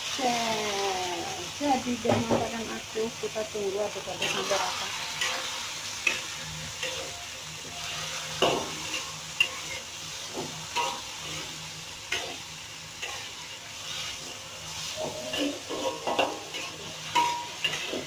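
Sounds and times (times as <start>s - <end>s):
light sizzle: 0.0s - 18.0s
spatula scraping a wok: 2.0s - 18.0s.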